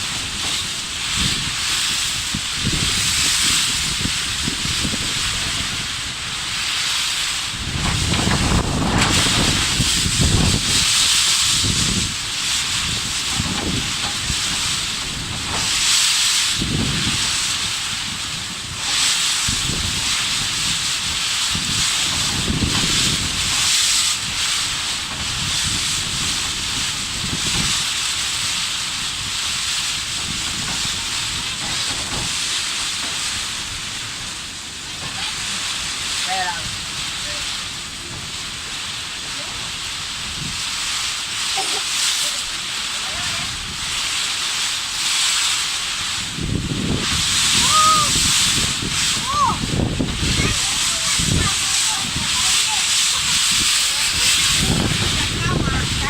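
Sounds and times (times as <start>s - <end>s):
strong wind rushing: 0.0s - 38.6s, 46.0s - 56.0s
wind gusts buffeting microphone: 0.0s - 56.0s.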